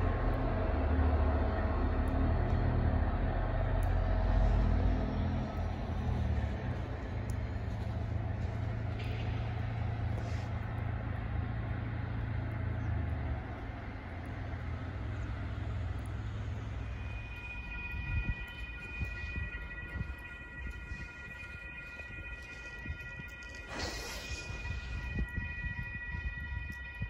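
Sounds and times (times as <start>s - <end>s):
diesel locomotive rumble: 0.0s - 27.0s.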